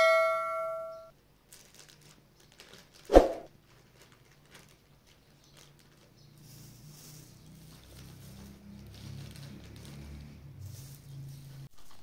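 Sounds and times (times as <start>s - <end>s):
plastic bag crinkling: 1.4s - 12.0s.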